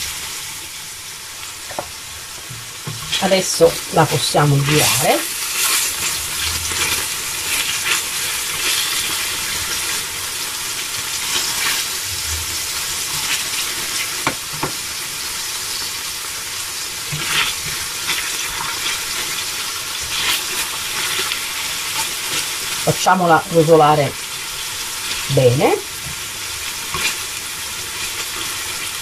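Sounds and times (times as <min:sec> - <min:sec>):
fish and garlic sizzling in oil: 0:00.0 - 0:29.0.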